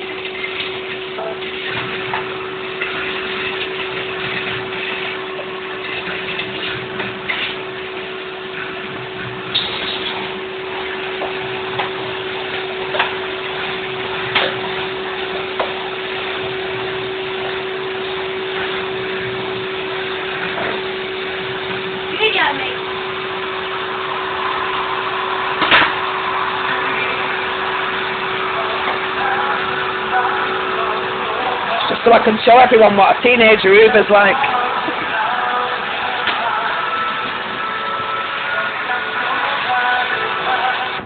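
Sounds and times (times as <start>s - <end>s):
vacuum cleaner humming: 0.0s - 41.0s.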